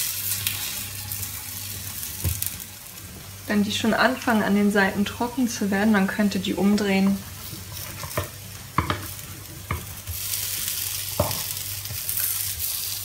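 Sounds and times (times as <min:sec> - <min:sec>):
batter sizzling in oil: 0:00.0 - 0:13.0.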